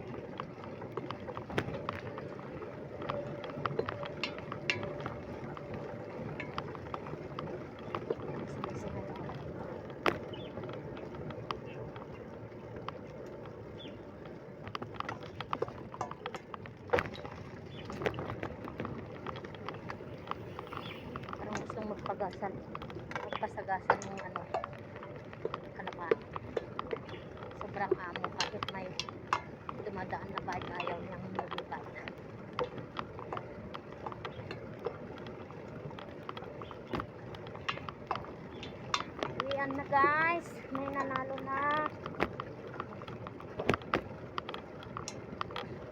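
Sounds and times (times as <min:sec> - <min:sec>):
bicycle clicks and rattles: 0:00.0 - 0:45.9
bicycle rolling: 0:00.0 - 0:45.9
road and wind noise: 0:00.0 - 0:45.9.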